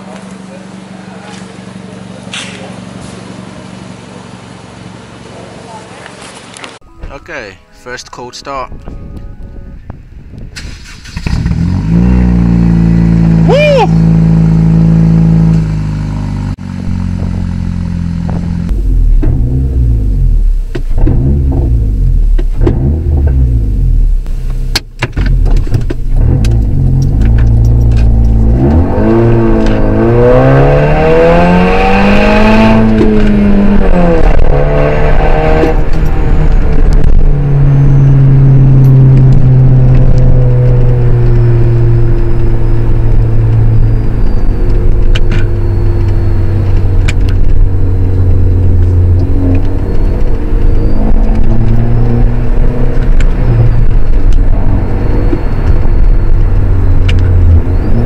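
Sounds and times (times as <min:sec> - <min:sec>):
car engine revving through gears: 0:10.6 - 0:58.0.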